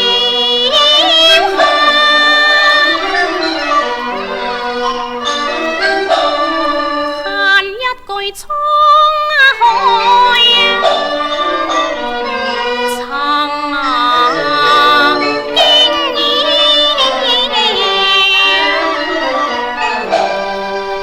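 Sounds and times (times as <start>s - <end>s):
woman singing opera: 0.0s - 20.6s
instrumental accompaniment: 0.0s - 21.0s.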